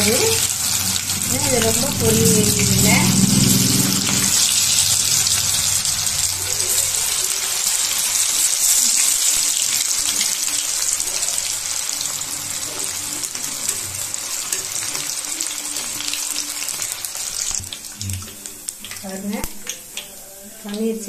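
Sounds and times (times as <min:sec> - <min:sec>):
paneer deep-frying in hot oil: 0:00.0 - 0:21.0.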